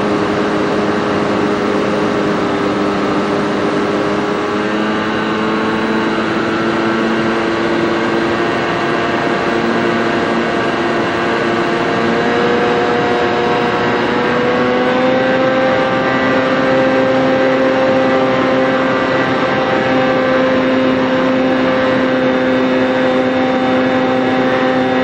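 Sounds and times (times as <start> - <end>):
model airplane motor and propeller: 0.0 - 25.0.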